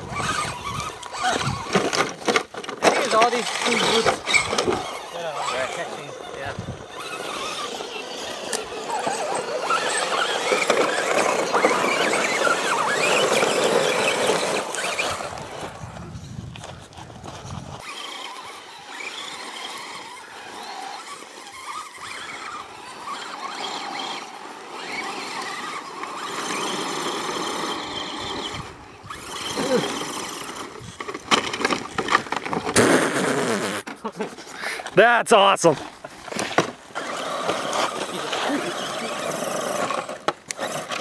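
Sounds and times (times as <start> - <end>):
rc truck motors whining: 0.0 - 35.0, 35.7 - 41.0.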